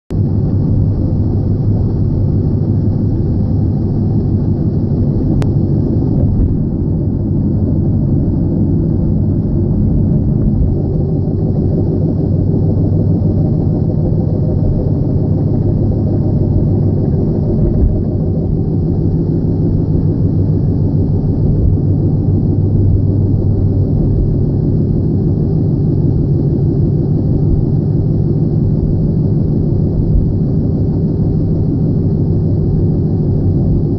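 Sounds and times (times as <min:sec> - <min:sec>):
tire rumble with drone: 0:00.1 - 0:33.9.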